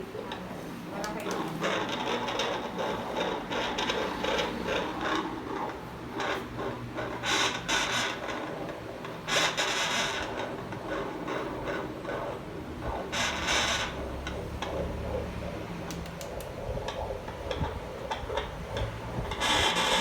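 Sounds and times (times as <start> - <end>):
rubbing and scraping: 0.5 - 20.0.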